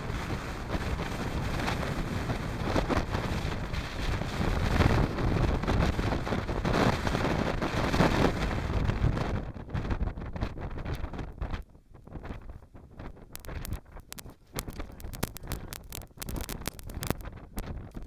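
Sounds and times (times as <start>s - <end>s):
wind blowing across microphone: 0.0s - 18.0s.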